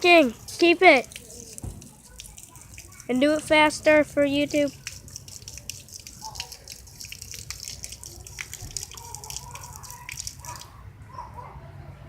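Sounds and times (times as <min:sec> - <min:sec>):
water dripping and trickling: 0:00.0 - 0:10.8
water pouring onto ground: 0:00.0 - 0:10.8.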